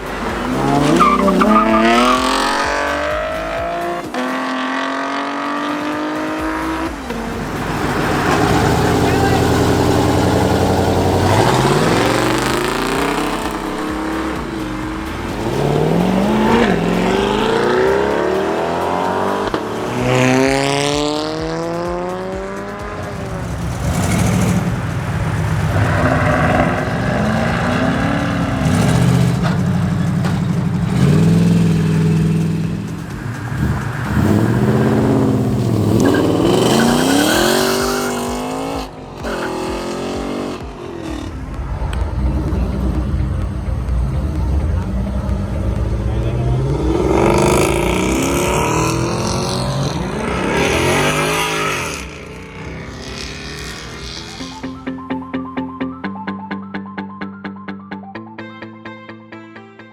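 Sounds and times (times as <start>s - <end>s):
car engines revving hard: 0.0s - 54.8s.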